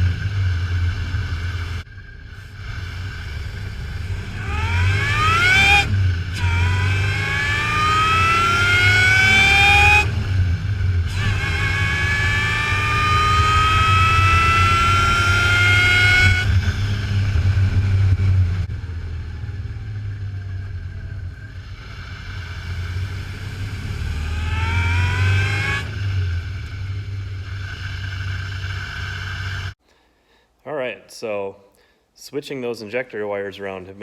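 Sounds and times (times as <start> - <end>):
car engine accelerating: 0.0 - 29.8.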